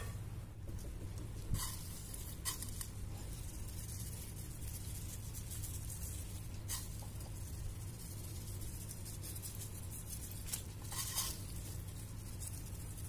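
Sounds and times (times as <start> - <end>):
steady low hum: 0.0 - 13.0
dry noodles rustling and crackling: 1.4 - 13.0.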